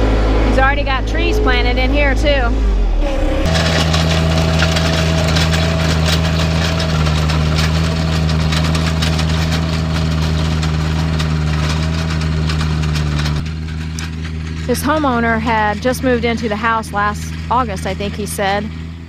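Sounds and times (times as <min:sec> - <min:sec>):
tractor diesel engine under load: 0:00.0 - 0:19.0
rattling clatter of knocks: 0:03.5 - 0:19.0.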